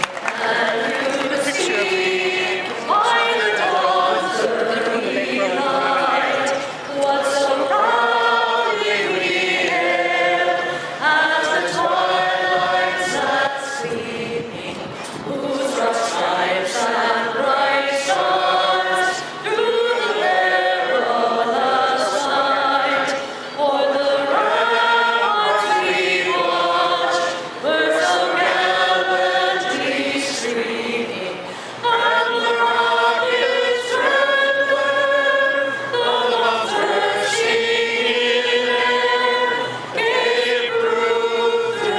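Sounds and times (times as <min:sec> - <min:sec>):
woman singing an anthem: 0:00.3 - 0:38.0.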